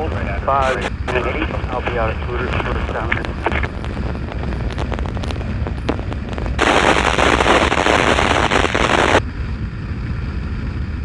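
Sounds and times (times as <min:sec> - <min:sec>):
crackling radio static: 0:00.0 - 0:09.2
motorcycle low rumble: 0:00.0 - 0:11.0.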